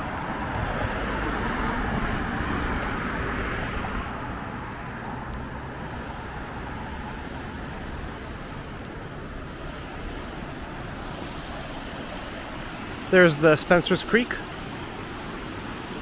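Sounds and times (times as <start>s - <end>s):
car passing: 0.0s - 16.0s
steady traffic hum: 0.0s - 16.0s.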